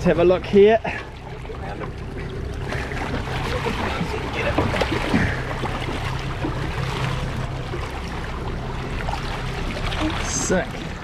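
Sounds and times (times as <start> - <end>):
boat engine hum: 0.0 - 11.0
water rushing and bubbling: 0.0 - 11.0.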